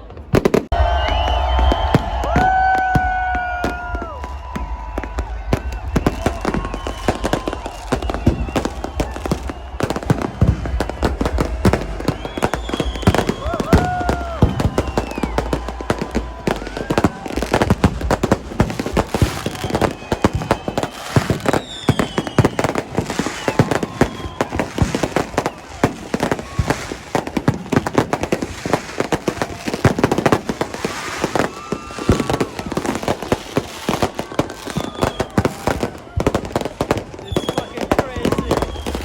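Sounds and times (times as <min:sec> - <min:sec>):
fireworks banging and crackling: 0:00.0 - 0:39.0.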